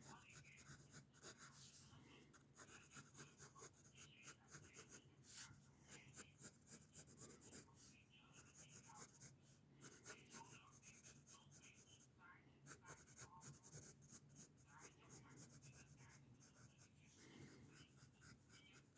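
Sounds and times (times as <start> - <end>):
pencil scratching on paper: 0.0 - 12.1, 12.7 - 18.9.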